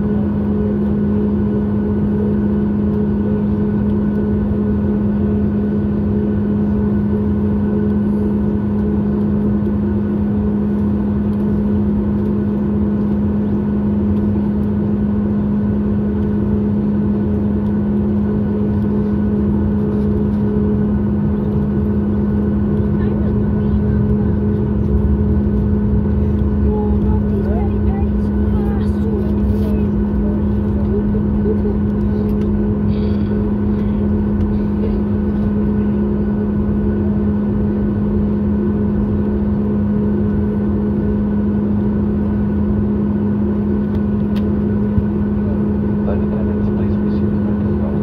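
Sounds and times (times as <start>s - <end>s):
jet engines humming in cabin: 0.0s - 48.0s.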